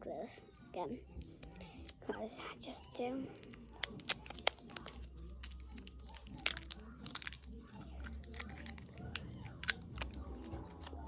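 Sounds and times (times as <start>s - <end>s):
sweet wrapper crinkling: 1.1s - 11.0s.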